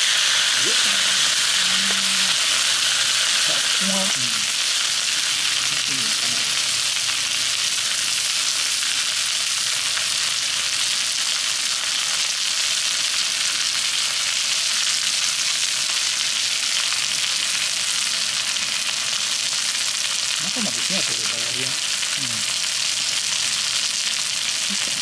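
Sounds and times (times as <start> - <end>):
meat sizzling on hot plate: 0.0 - 25.0.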